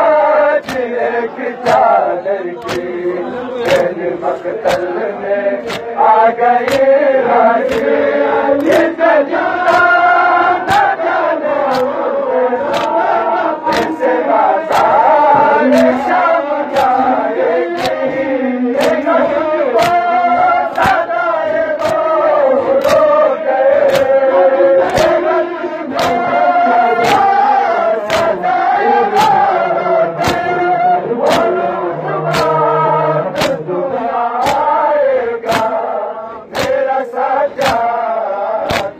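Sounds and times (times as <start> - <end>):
crowd of men chanting: 0.0 - 38.9
chest beating slaps: 0.6 - 7.0, 7.6 - 9.0, 9.6 - 12.0, 12.6 - 32.7, 33.3 - 33.7, 34.4 - 38.9.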